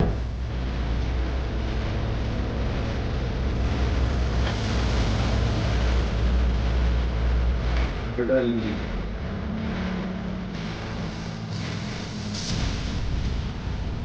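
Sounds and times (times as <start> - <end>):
vehicle rumble and hiss: 0.0 - 14.0.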